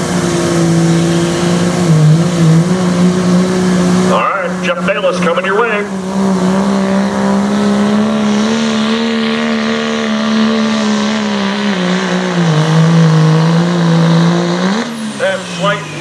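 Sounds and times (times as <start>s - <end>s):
diesel engine at full load: 0.0s - 16.0s.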